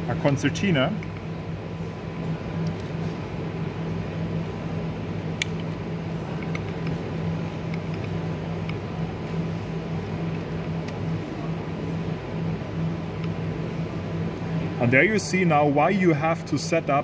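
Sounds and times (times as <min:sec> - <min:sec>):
low hum of machinery and ventilation: 0:00.0 - 0:17.0.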